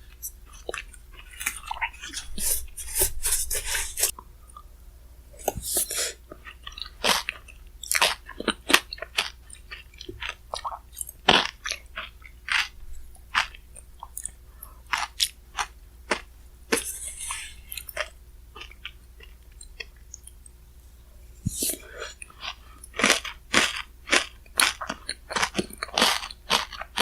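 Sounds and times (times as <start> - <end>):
chewing and crunching: 0.1 - 2.5, 6.3 - 20.5, 21.6 - 27.0.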